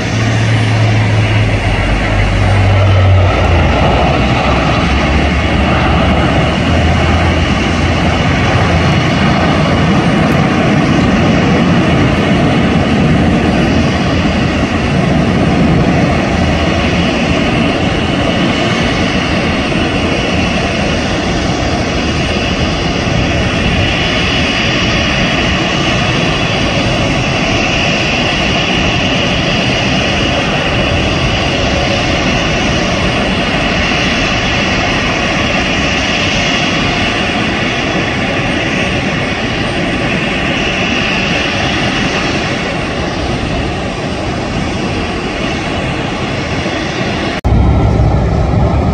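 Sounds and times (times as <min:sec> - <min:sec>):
jet engine whine and rumble: 0:00.0 - 0:48.9.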